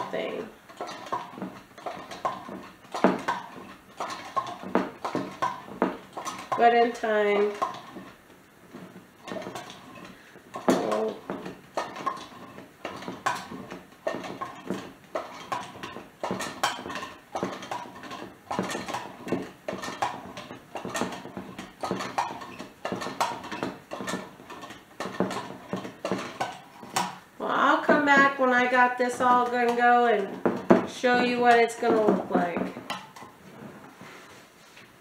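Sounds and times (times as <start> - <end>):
butter churn clattering: 0.0 - 34.0.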